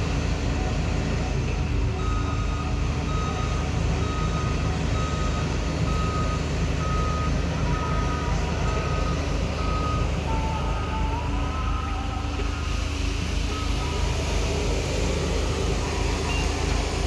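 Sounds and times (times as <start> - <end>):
diesel engine running: 0.0 - 17.0
reversing alarm beeping: 0.5 - 17.0.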